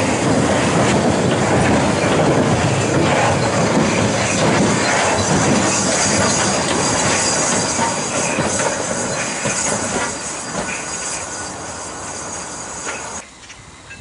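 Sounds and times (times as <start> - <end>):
steam escaping: 0.0 - 13.2
train wheels on rails: 0.0 - 14.0.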